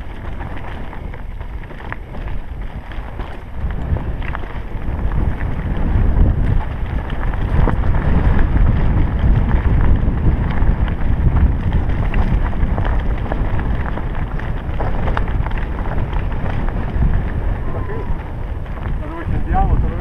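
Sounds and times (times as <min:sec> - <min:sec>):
bike rattles and clicks: 0:00.0 - 0:20.0
tyres crunching over gravel: 0:00.0 - 0:20.0
wind buffeting microphone: 0:00.0 - 0:20.0.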